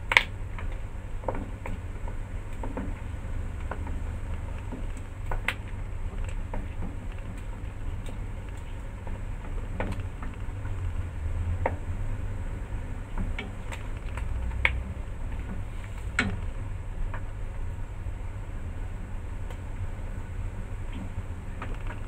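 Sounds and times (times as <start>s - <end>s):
pot boiling: 0.0s - 22.0s.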